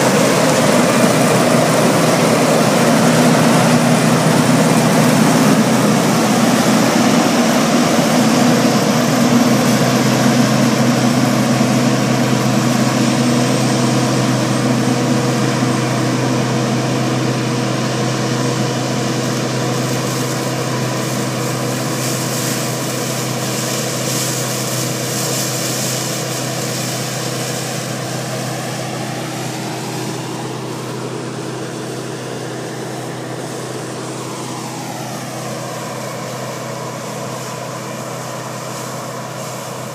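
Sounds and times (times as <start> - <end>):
combine harvester humming: 0.0 - 39.9.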